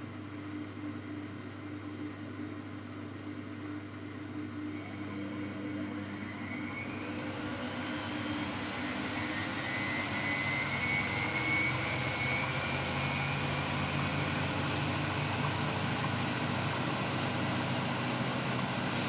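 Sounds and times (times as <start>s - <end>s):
washing machine spinning: 3.6s - 19.0s.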